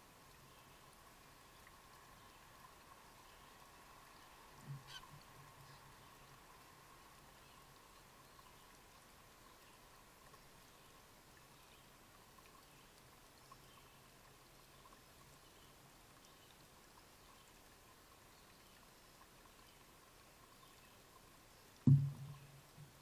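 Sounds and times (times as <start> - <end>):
faint steady hiss: 0.0 - 23.0
stream trickling: 0.0 - 23.0.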